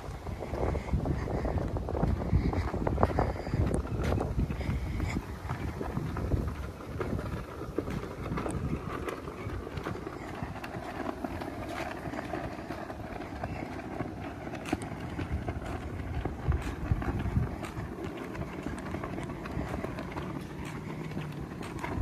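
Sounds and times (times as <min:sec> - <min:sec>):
footsteps on concrete: 0:00.0 - 0:22.0
wind buffeting microphone: 0:00.0 - 0:22.0.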